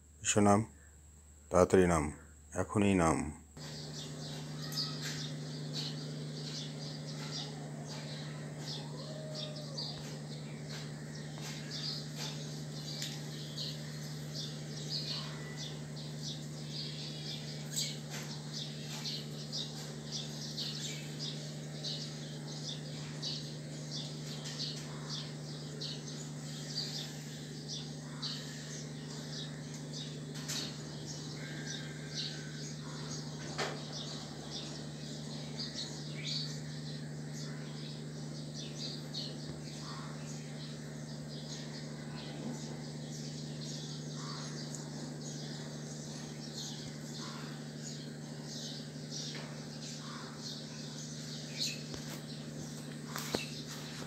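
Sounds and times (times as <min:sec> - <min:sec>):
steady low hum: 0:00.0 - 0:54.0
birds chirping: 0:00.2 - 0:54.0.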